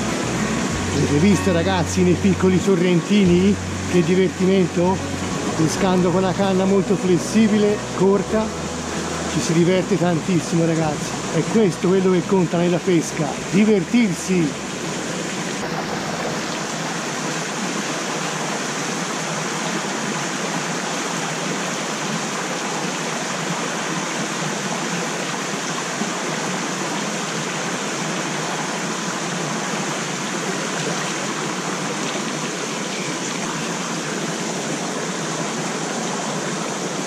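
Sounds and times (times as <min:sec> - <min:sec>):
stream water flowing: 0:00.0 - 0:37.0.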